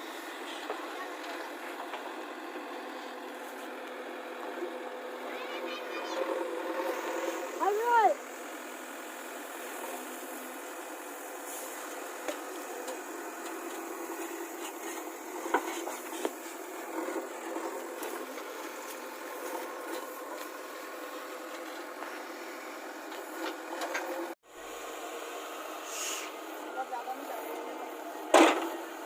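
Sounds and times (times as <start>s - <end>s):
backhoe engine running: 0.0s - 29.0s.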